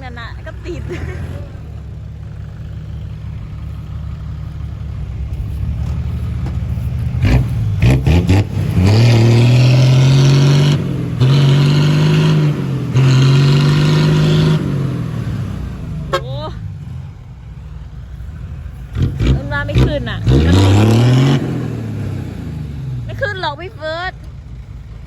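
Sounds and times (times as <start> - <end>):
diesel truck engine revving: 0.0 - 25.0.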